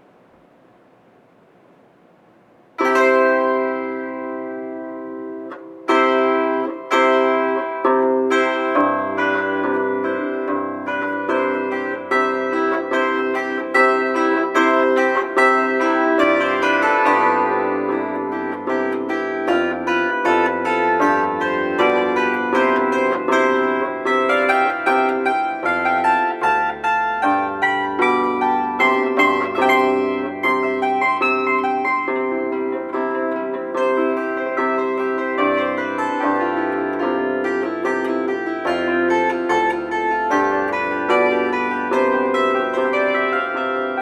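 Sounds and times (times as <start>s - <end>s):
plucked string instrument melody: 2.8s - 44.0s.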